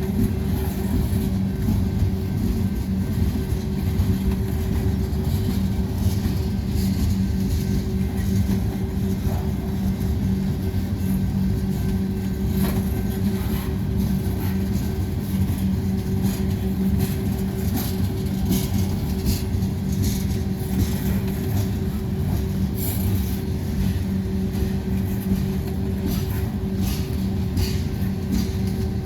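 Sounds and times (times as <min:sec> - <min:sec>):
freight train rumbling: 0:00.0 - 0:29.0
wheels clacking on rails: 0:00.0 - 0:29.0.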